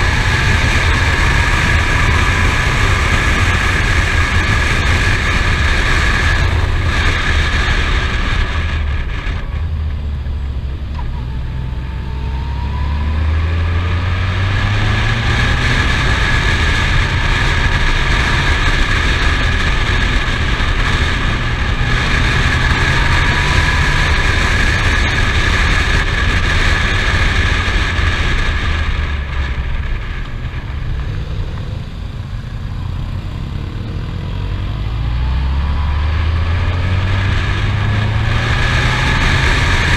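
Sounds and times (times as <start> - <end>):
motorcycle engine accelerating: 0.0 - 39.9
wind rush over microphone: 0.0 - 39.9.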